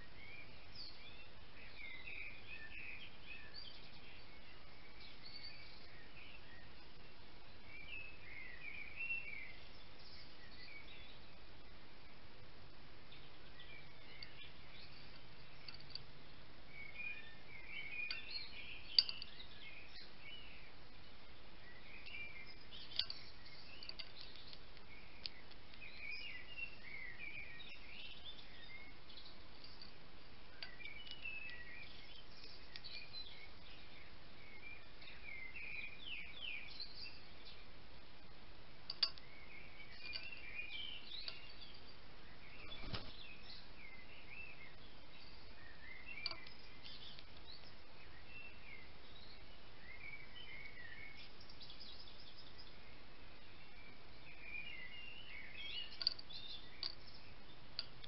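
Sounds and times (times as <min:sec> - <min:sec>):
songbirds chirping and singing: 0:00.0 - 0:58.0
steady outdoor hiss: 0:00.0 - 0:58.0.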